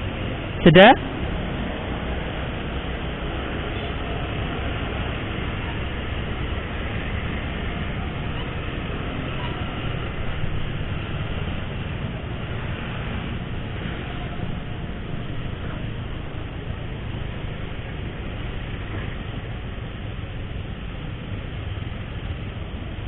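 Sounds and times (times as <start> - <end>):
motorcycle engine rumble: 0.0 - 23.0
wind and road noise: 0.0 - 23.0.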